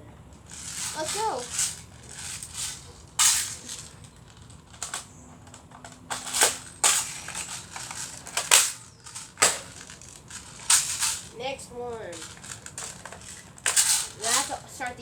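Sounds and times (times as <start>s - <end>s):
hands handling a rifle: 0.4s - 11.4s, 12.0s - 14.6s.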